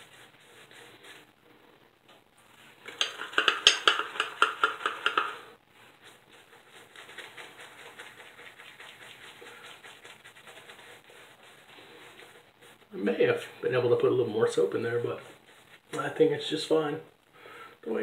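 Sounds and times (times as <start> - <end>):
shaving brush swishing lather: 0.0 - 1.3, 2.4 - 16.8.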